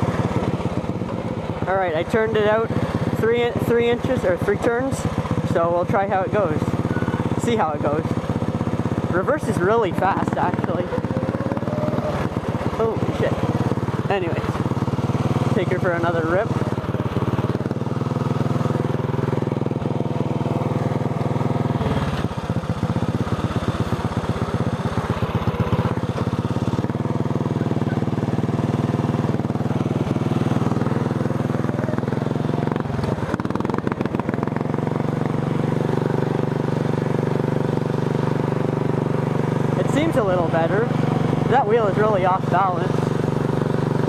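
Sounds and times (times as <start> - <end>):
lawn tractor engine running: 0.0 - 44.0.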